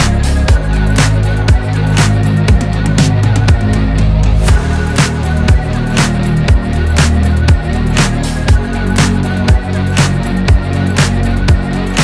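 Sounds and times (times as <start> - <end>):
bass-heavy music with steady beat: 0.0 - 12.0.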